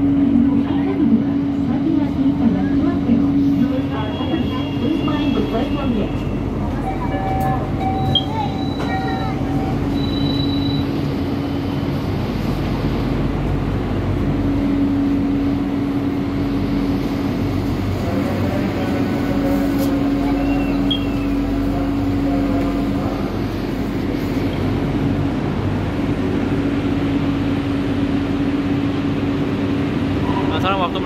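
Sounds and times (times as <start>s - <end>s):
train car humming: 0.0s - 31.0s.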